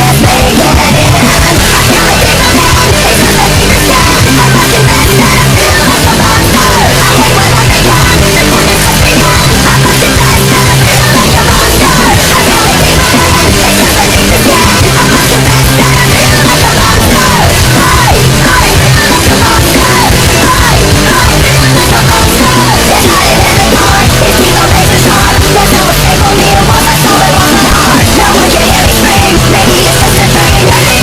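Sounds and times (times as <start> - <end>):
heavy rock music: 0.0 - 31.0
shouted vocal: 0.0 - 31.0.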